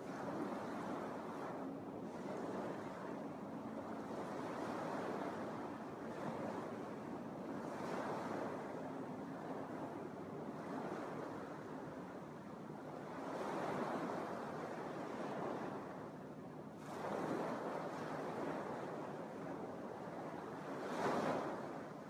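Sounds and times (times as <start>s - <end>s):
small waves washing on sandy beach: 0.0s - 22.0s.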